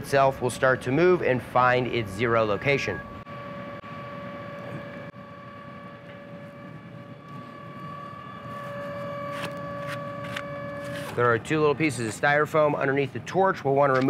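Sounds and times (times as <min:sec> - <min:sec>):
motors whining: 0:00.0 - 0:11.4.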